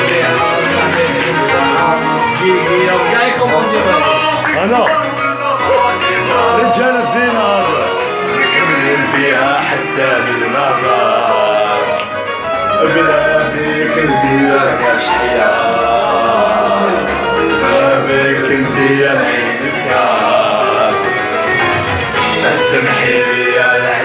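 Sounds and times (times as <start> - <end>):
man singing: 0.0 - 12.0, 12.7 - 21.4, 22.1 - 24.0
loud music: 0.0 - 24.0.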